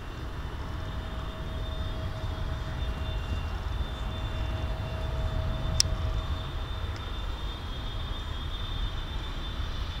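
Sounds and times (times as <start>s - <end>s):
jet engines rumbling and whining: 0.0s - 10.0s.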